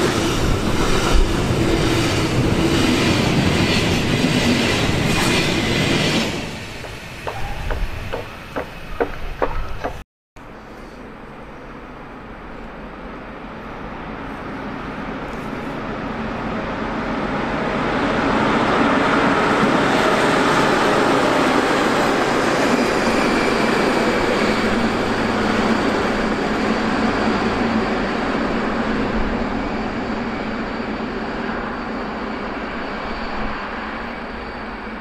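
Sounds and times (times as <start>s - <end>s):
train running past on rails: 0.0s - 35.0s.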